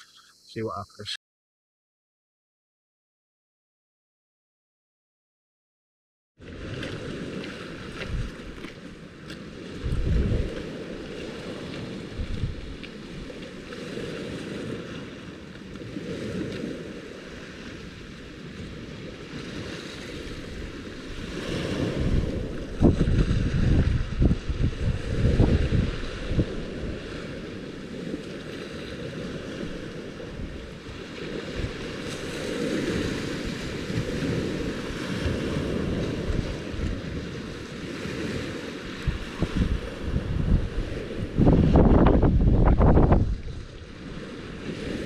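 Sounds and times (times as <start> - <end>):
wind buffeting microphone: 6.5 - 45.0.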